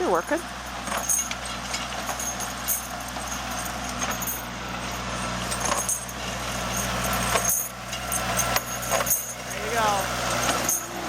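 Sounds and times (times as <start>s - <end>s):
tractor engine running: 0.0s - 11.0s
sharp clinks: 0.5s - 11.0s.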